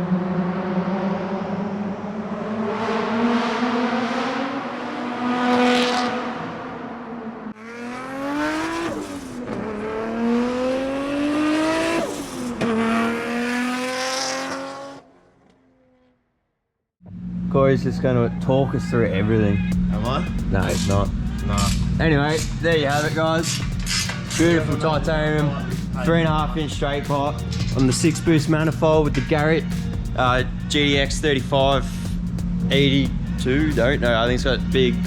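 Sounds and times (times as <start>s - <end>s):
turbocharged car engine accelerating: 0.0s - 15.5s, 17.1s - 35.0s.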